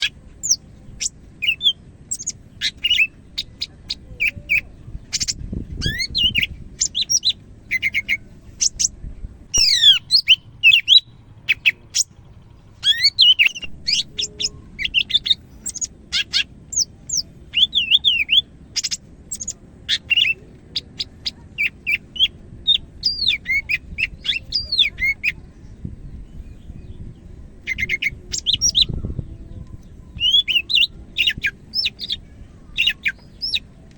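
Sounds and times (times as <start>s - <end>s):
bird singing chirps and trills: 0.0s - 33.9s.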